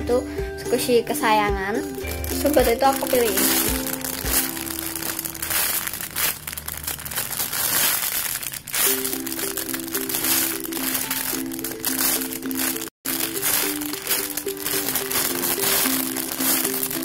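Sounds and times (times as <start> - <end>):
simple background melody: 0.0 - 5.8, 8.9 - 17.0
plastic bag crinkling: 1.9 - 17.0.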